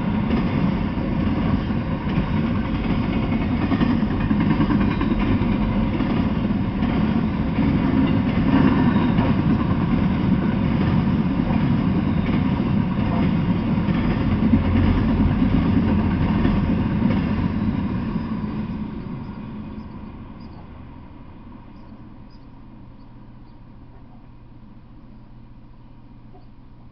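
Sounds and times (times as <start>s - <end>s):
freight train rolling past: 0.0s - 26.9s.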